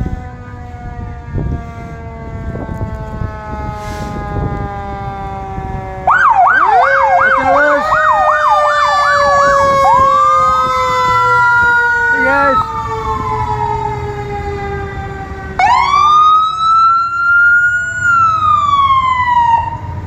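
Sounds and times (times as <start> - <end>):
loud yelping siren: 0.0 - 20.0
siren winding down: 0.0 - 20.0.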